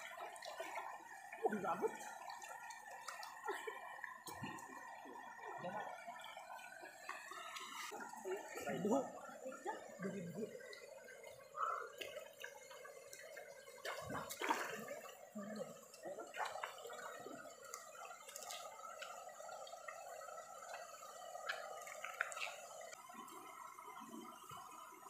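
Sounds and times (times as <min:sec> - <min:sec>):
water gurgling and lapping: 0:00.0 - 0:25.0.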